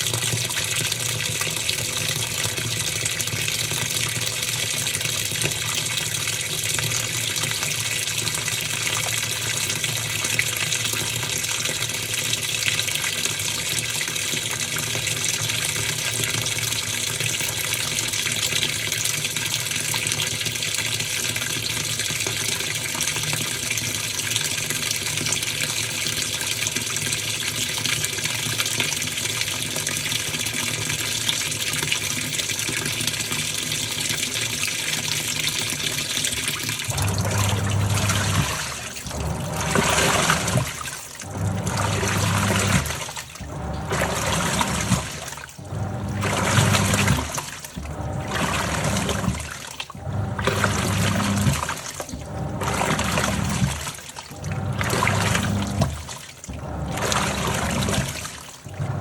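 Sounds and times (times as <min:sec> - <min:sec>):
water pouring into washing machine: 0:00.0 - 0:59.0.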